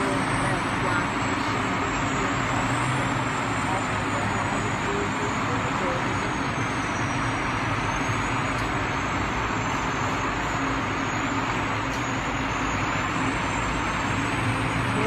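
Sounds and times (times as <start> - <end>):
truck engines droning: 0.0 - 15.0.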